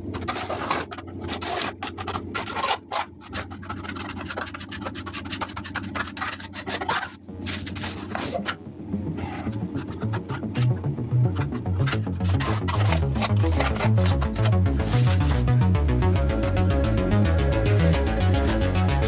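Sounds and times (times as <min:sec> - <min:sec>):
scraping on a hard surface: 0:00.0 - 0:08.5, 0:09.1 - 0:19.0.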